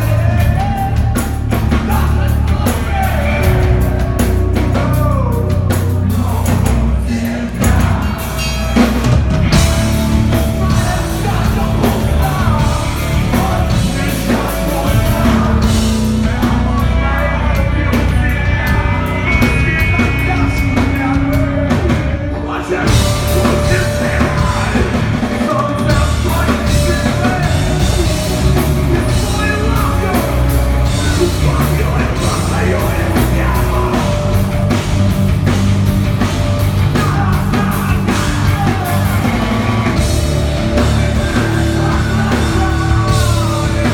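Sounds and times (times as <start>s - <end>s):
person singing: 0.0s - 35.6s, 36.2s - 43.9s
heavy rock band playing: 0.0s - 43.9s.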